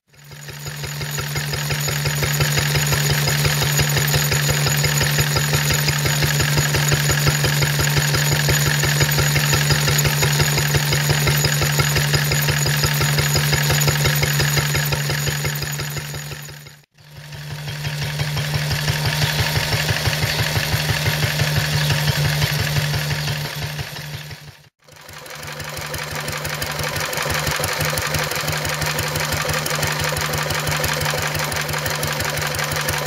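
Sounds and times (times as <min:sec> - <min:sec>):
stationary engine running: 0:00.0 - 0:33.0.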